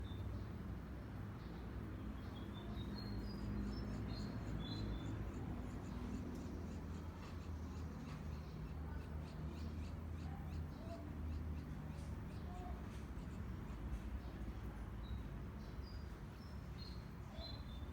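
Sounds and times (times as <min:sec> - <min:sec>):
small birds chirping: 0:01.4 - 0:17.9.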